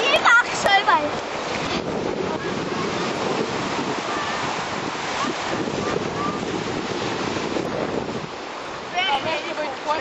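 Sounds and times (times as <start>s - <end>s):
sea surf: 0.0s - 10.0s
wind on microphone: 0.0s - 10.0s.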